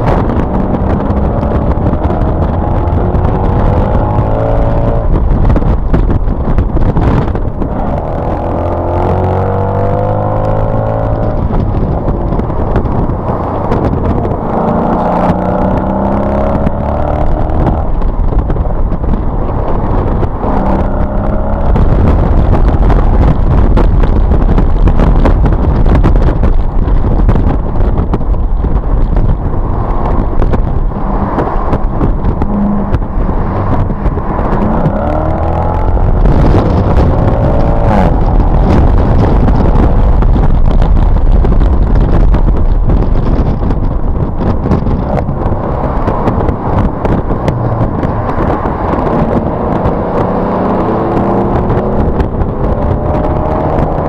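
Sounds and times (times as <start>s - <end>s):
car engine revving: 0.0s - 54.0s
wind and road noise rumble: 0.0s - 54.0s.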